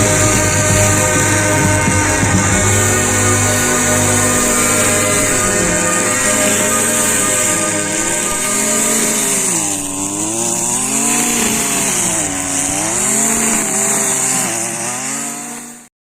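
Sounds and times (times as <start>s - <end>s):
high hiss: 0.0s - 15.2s
small engine running: 0.0s - 15.9s.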